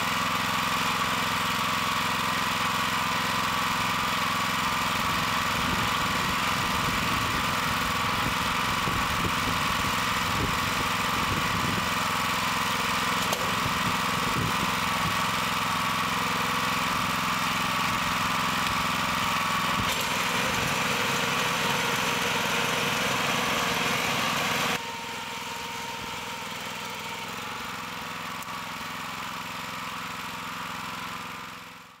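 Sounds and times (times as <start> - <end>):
small petrol engine running: 0.0 - 32.0.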